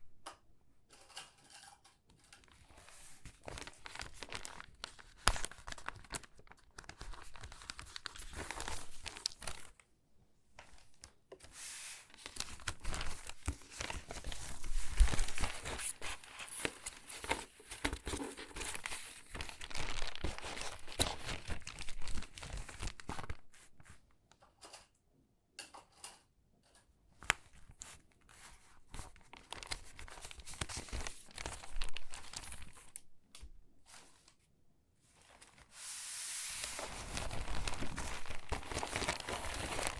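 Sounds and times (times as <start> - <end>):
paper crinkling and rustling: 2.2 - 9.8, 10.6 - 24.8, 27.2 - 39.9.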